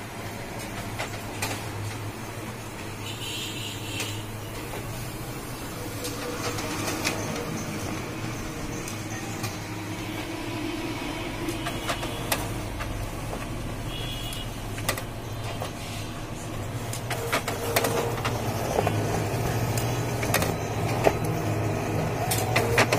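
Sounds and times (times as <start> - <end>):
photocopier humming: 0.0 - 22.9.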